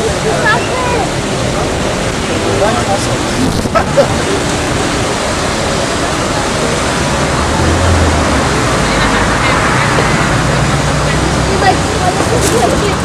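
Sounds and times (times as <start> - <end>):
water rushing into lock: 0.0 - 13.0.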